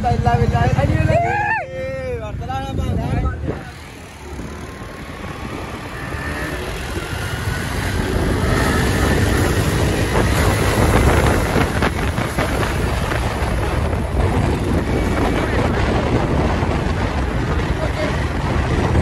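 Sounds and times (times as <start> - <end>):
motorcycle engines droning: 0.0 - 19.0
wind buffeting microphone: 0.0 - 19.0.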